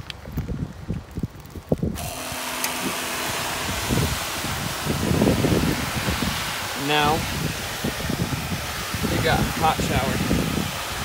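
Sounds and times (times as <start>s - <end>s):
water pump motor humming: 1.9s - 11.0s.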